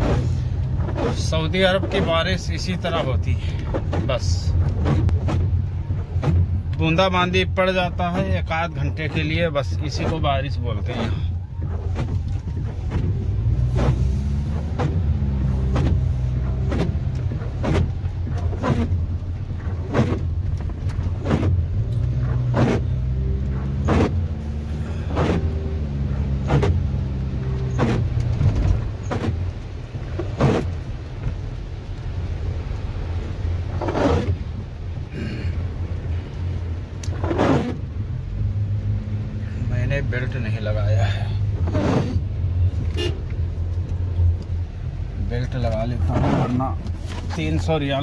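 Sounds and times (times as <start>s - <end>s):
car engine: 0.0s - 48.0s
tyres on wet road: 0.0s - 48.0s
windscreen wipers sweeping: 0.0s - 48.0s.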